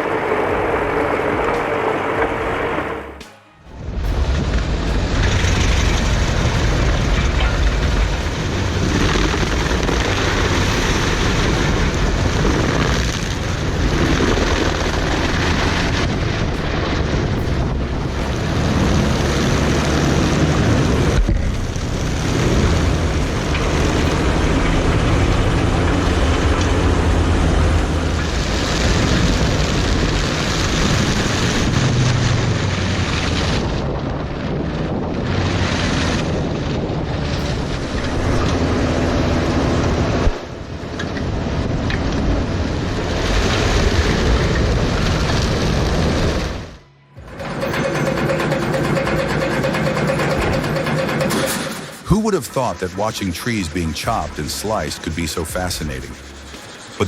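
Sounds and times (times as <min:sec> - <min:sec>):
heavy machinery engine rumble: 0:00.0 - 0:57.0.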